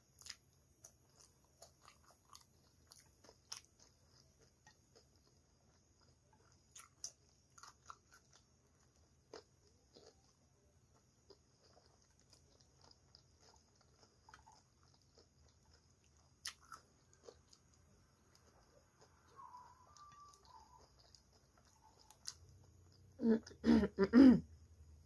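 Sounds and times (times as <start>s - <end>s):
person chewing food: 0.0s - 23.6s.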